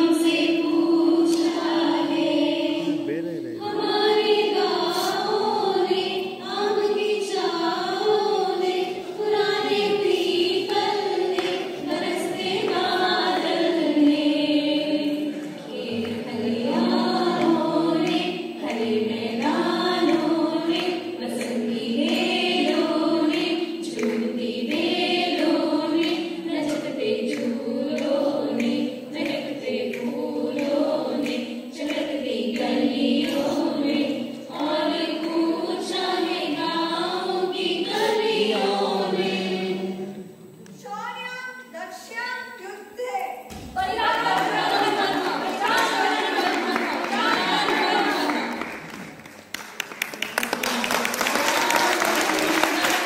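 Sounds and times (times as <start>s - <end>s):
women singing in chorus: 0.0s - 41.0s, 43.4s - 49.1s, 50.4s - 53.0s.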